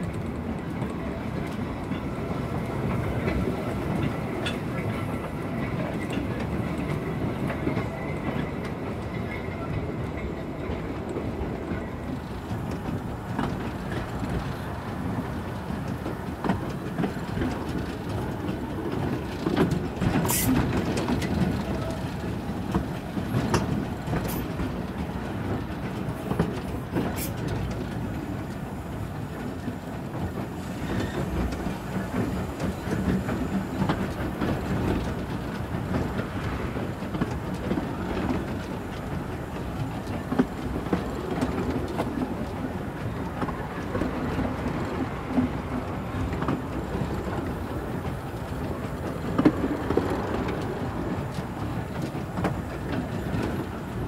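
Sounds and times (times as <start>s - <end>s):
steam train rumble and rattle: 0.0s - 54.0s
wheels clicking over rail joints: 0.0s - 54.0s.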